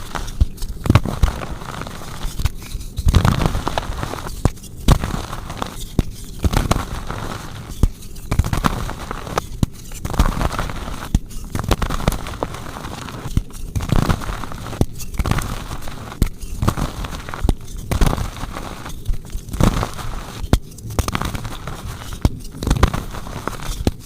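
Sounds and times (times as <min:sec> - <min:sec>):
chalk crushing and crunching: 0:00.0 - 0:24.0.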